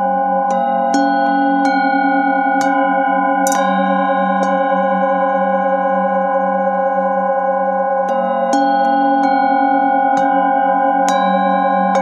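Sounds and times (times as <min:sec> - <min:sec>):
singing bowl struck with mallet: 0:00.0 - 0:12.0.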